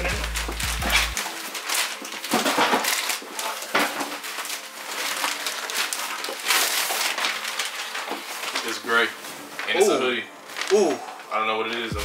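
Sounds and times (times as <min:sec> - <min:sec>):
packaging rustling and tearing: 0:00.0 - 0:12.0.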